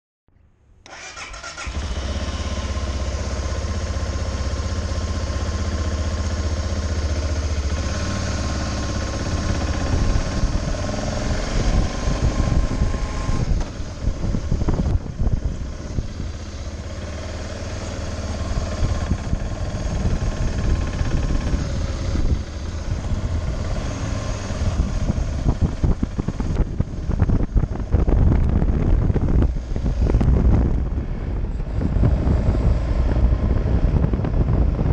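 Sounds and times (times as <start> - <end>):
motorcycle engine idling and accelerating: 0.9 - 34.9
wind noise on microphone: 0.9 - 34.9.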